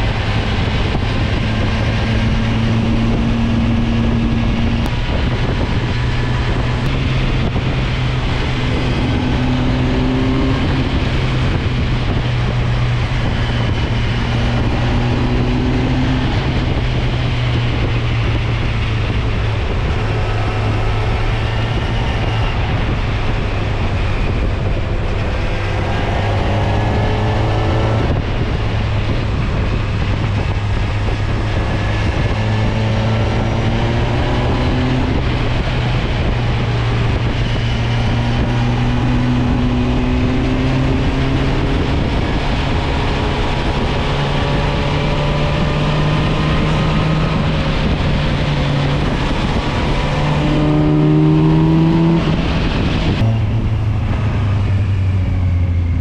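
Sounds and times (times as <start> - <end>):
wind rushing: 0.0 - 56.0.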